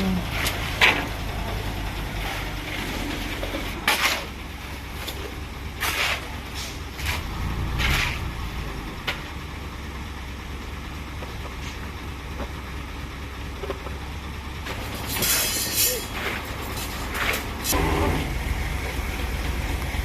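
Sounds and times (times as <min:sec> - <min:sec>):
heavy engine rumbling: 0:00.0 - 0:20.0.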